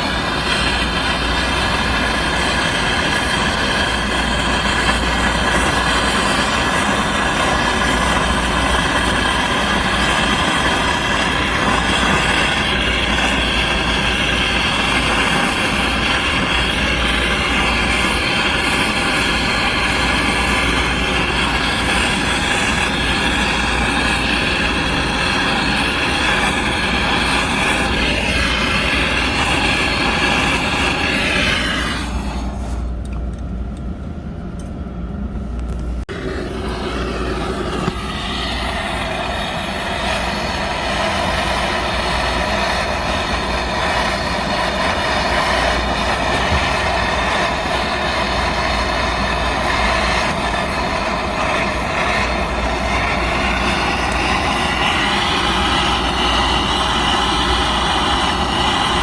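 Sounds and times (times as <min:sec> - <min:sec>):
torch flame burning with whistle: 0:00.0 - 0:59.0.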